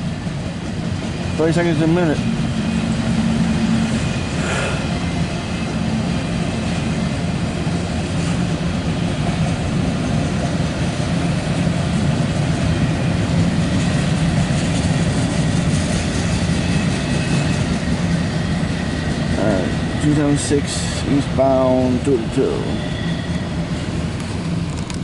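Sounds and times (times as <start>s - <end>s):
diesel locomotives droning: 0.0s - 25.0s.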